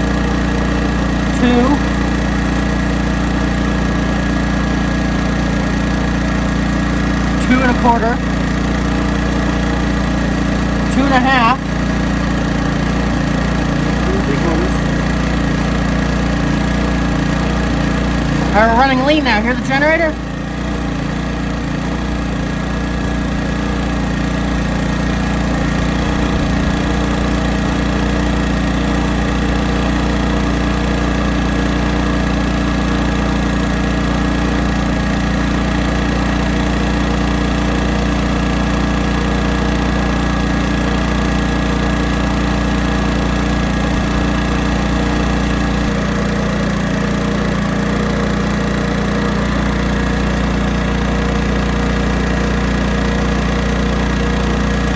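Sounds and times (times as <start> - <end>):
portable generator engine running: 0.0 - 54.9.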